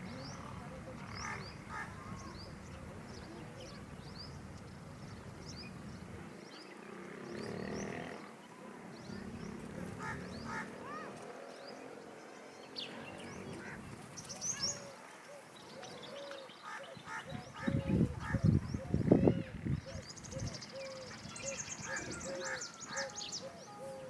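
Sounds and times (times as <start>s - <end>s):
birds calling and chirping: 0.0s - 24.0s.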